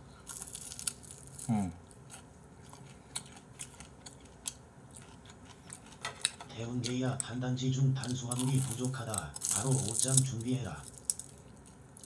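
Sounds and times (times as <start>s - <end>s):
crunchy chewing: 0.1s - 12.0s.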